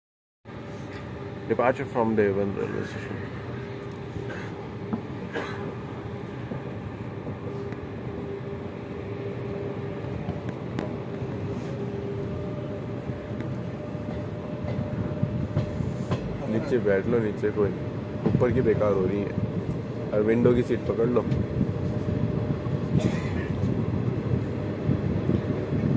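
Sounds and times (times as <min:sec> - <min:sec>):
held train tone: 0:00.5 - 0:25.9
moving train rumble: 0:00.5 - 0:25.9.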